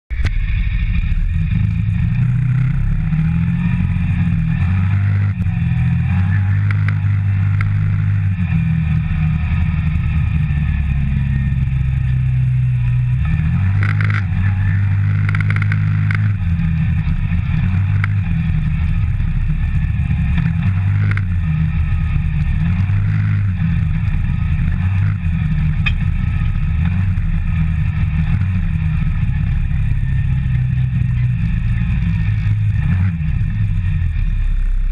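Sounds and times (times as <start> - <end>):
off-road vehicle engine droning: 0.1 - 34.9.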